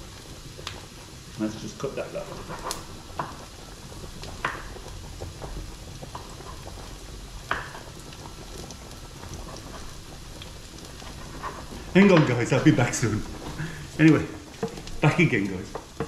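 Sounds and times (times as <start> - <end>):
onions sizzling in pan: 0.0 - 16.0
pot boiling: 0.0 - 16.0.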